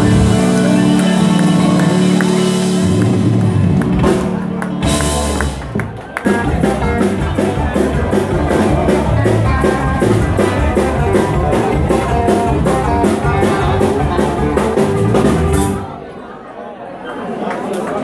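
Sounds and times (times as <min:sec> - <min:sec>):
live band playing dance music: 0:00.0 - 0:16.0.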